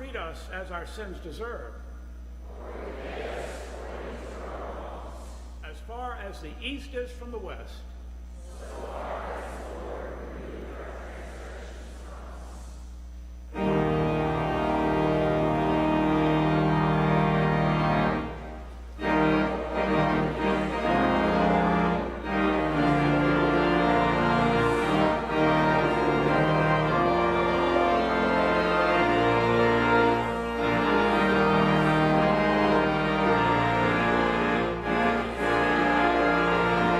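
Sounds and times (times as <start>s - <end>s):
church organ playing chords: 2.5s - 7.8s, 8.5s - 36.9s.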